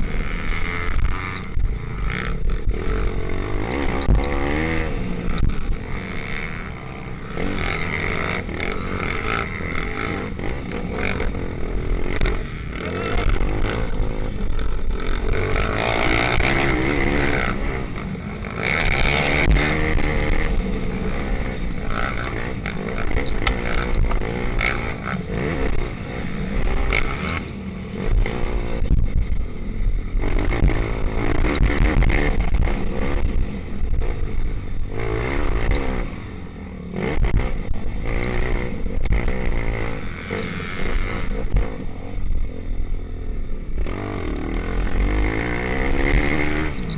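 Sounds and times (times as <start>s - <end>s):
pit bike engines racing: 0.0s - 46.9s.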